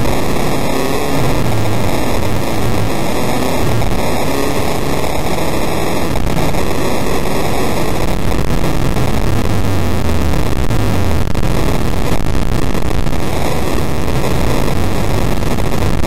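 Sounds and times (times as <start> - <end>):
car engine roar: 0.0 - 16.0
wind noise: 0.0 - 16.0.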